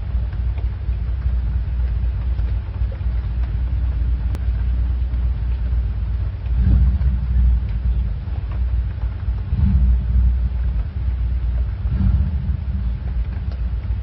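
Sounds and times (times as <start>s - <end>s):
fan air buffeting microphone: 0.0s - 14.0s.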